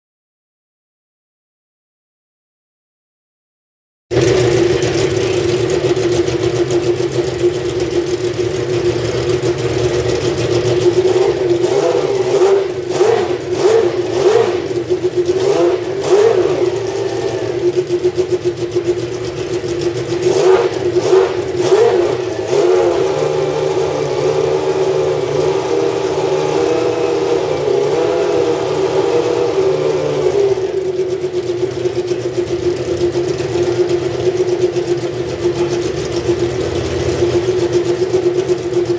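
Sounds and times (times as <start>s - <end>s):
engine throttle blips: 4.1s - 38.9s
racing car engine idling: 4.1s - 38.9s.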